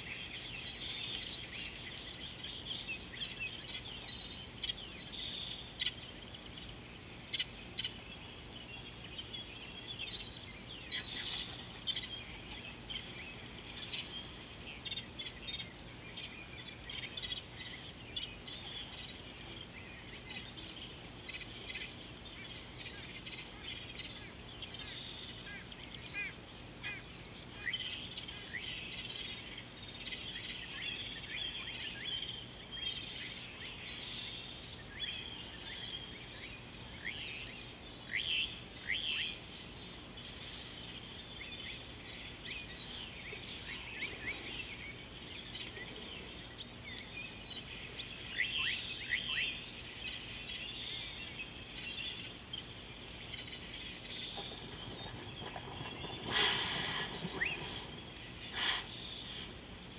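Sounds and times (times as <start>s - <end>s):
birds chirping: 0.0s - 59.9s
faint low hum: 0.0s - 59.9s.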